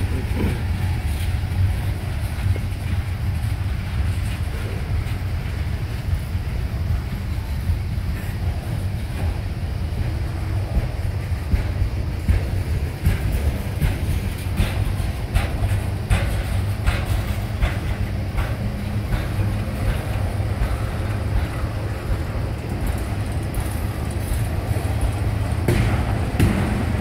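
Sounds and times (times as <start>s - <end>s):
freight train wheels rumbling: 0.0s - 27.0s
wheels clickety-clack on rail joints: 0.0s - 27.0s.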